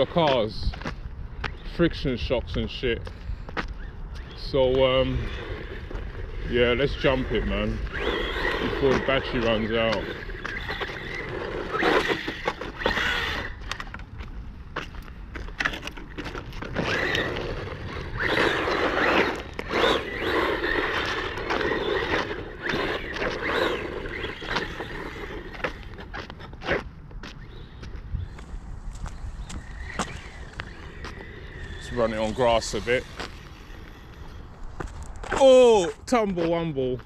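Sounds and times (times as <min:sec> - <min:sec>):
tyres scraping over rough ground: 0:00.0 - 0:37.0
rc truck motor surging: 0:03.8 - 0:14.0, 0:15.5 - 0:35.3.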